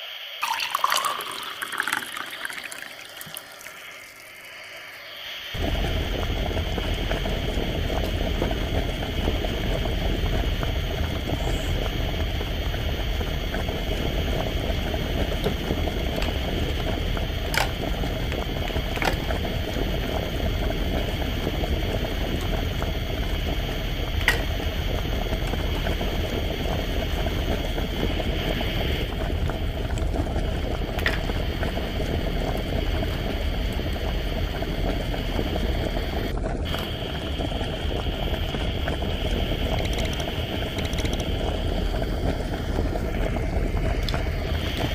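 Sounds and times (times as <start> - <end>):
boiling water bubbling: 0.0 - 44.9.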